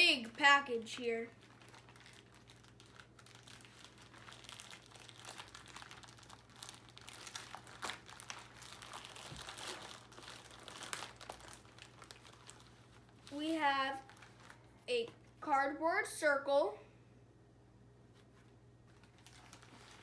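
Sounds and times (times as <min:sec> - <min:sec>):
packaging crinkling and rustling: 0:00.1 - 0:15.2, 0:18.8 - 0:20.0.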